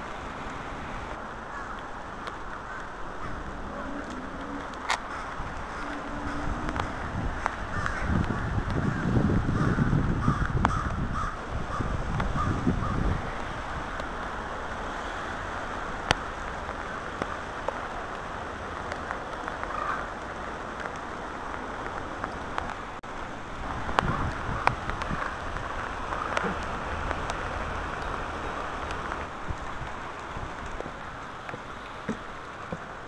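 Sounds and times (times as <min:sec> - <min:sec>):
raindrops tapping close by: 0:00.0 - 0:33.0
steady rain falling: 0:00.0 - 0:33.0.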